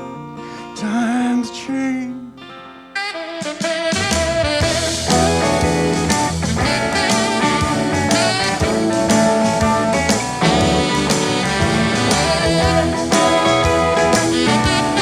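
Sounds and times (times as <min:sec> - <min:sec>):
guitar-led instrumental band music: 0:02.3 - 0:15.0.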